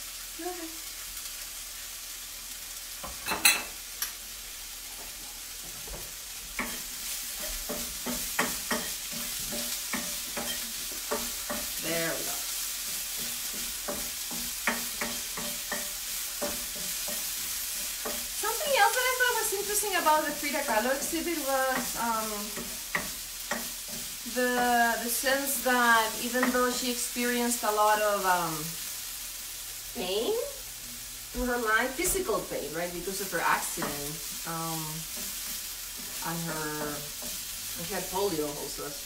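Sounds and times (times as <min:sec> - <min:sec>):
food sizzling in a frying pan: 0:00.0 - 0:39.0
wooden spatula scraping a pan: 0:04.8 - 0:28.9, 0:31.0 - 0:39.0.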